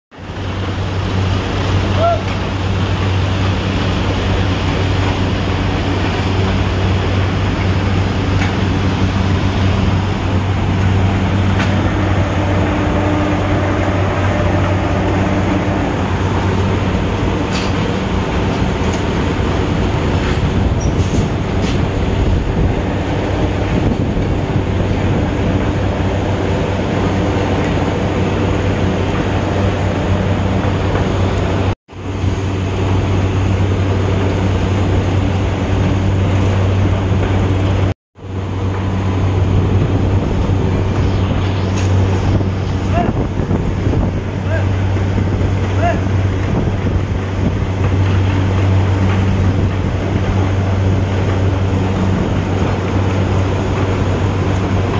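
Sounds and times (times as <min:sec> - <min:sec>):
heavy machinery humming: 0:00.2 - 0:54.9.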